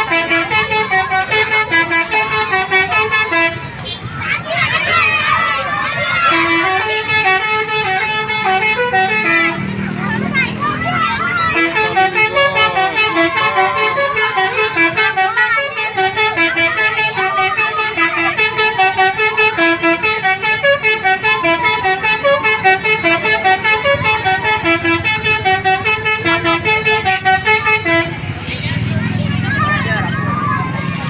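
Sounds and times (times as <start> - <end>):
bus horn playing fast melody: 0.0 - 4.1, 6.1 - 10.3, 10.9 - 28.4.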